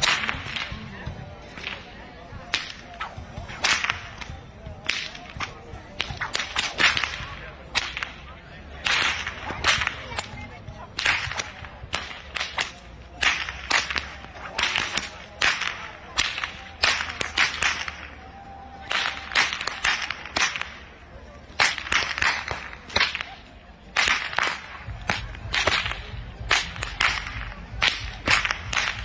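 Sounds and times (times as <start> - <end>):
whips cracking: 0.0 - 0.9, 1.5 - 1.9, 2.5 - 10.4, 11.0 - 18.2, 18.8 - 29.0.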